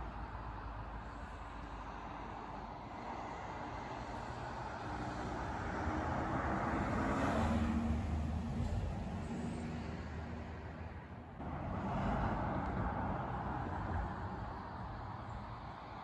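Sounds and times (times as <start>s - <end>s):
vehicles passing: 0.0s - 16.0s.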